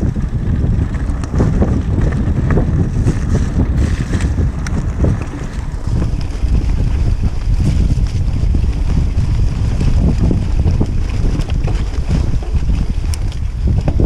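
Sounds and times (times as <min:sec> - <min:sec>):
bike knocks and rattles: 0:00.0 - 0:14.0
bike tyres rolling on stones: 0:00.0 - 0:14.0
wind buffeting microphone: 0:00.0 - 0:14.0.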